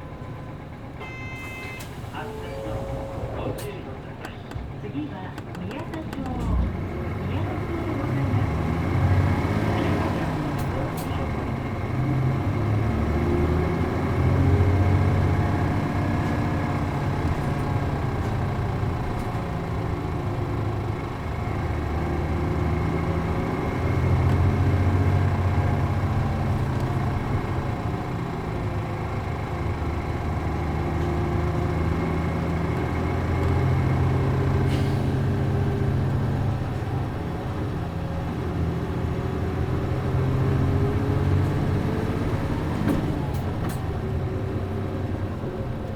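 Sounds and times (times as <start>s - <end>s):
bus diesel engine revving: 0.0s - 45.9s.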